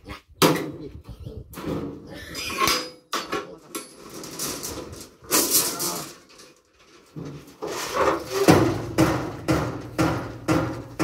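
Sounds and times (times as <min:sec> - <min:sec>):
steel bars clanking and rattling: 0:01.6 - 0:11.0.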